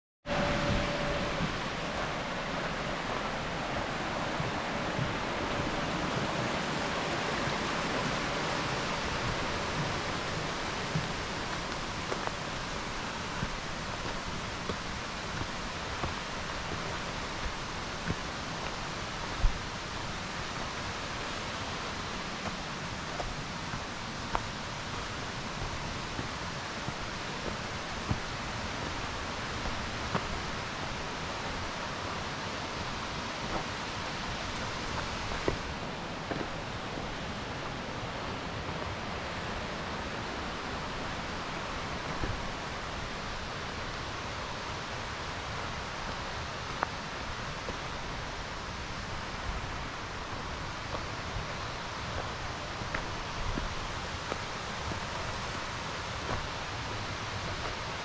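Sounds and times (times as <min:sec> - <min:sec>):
waterfall rushing: 0:00.3 - 0:58.0
footsteps on dirt: 0:00.8 - 0:43.9, 0:46.2 - 0:58.0.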